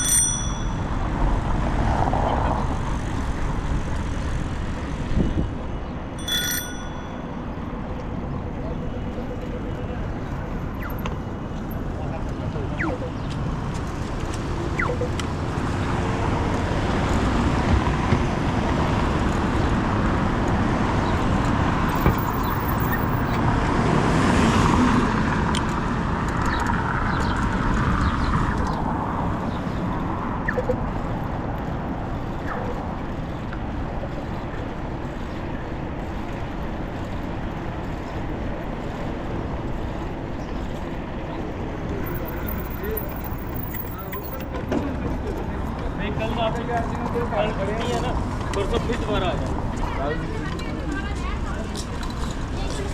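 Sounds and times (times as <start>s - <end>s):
cars passing: 0.0s - 52.9s.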